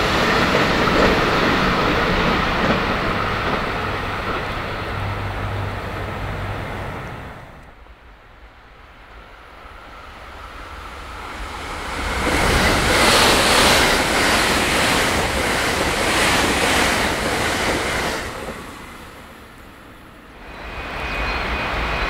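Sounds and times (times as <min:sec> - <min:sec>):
electric train passing at speed: 0:00.0 - 0:22.0.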